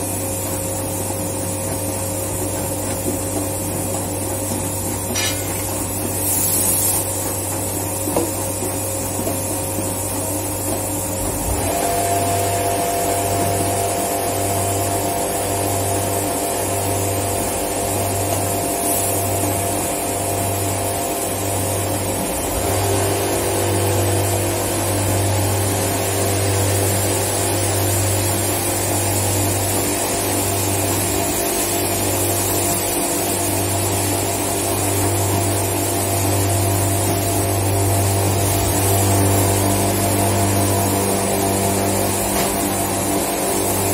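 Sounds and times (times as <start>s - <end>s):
machinery droning with low hum: 0.0s - 43.9s.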